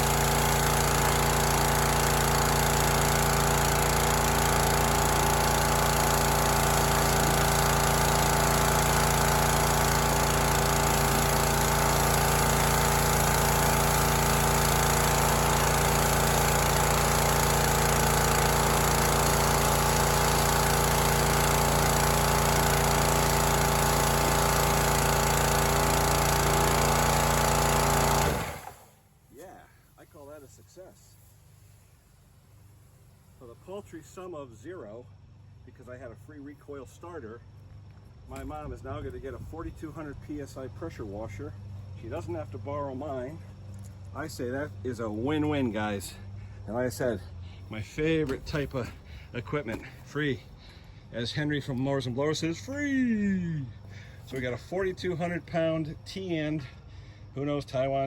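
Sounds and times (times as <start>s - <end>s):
pressure washer engine running: 0.0s - 58.0s.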